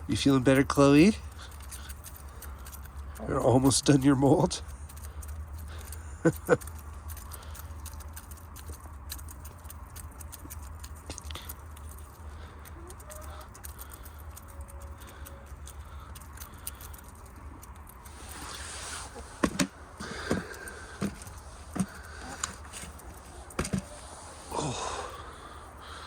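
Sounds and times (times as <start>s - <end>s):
hens pecking seed: 0.0s - 26.0s.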